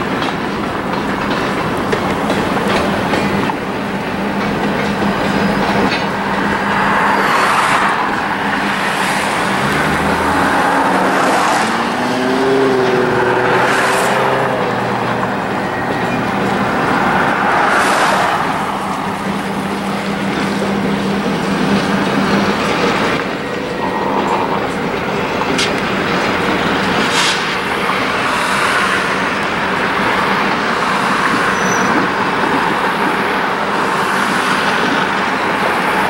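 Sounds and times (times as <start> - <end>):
diesel locomotive engine running: 0.0 - 36.0
train wheels clattering over rail joints: 0.0 - 36.0.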